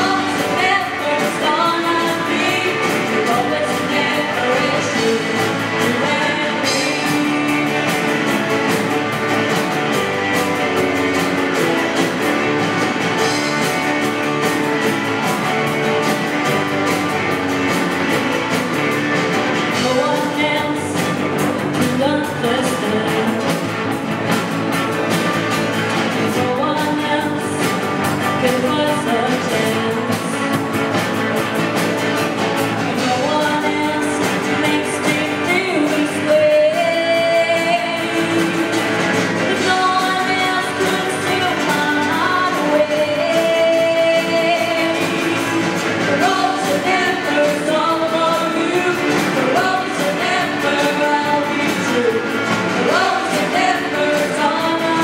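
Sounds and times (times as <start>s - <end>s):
rock song with singing: 0.0s - 55.0s.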